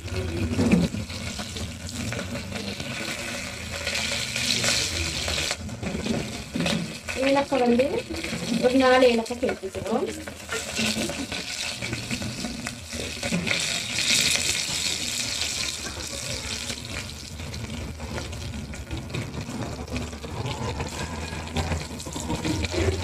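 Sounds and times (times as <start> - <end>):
spices sizzling in hot oil: 0.0 - 23.0.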